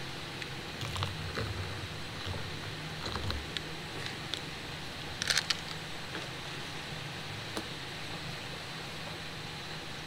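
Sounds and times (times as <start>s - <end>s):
background hiss and rumble: 0.0s - 10.0s.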